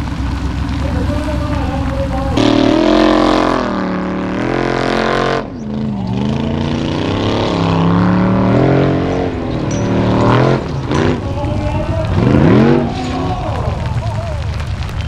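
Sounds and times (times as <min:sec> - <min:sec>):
buggy engine revving: 0:00.0 - 0:15.0
gravel spraying: 0:00.0 - 0:15.0.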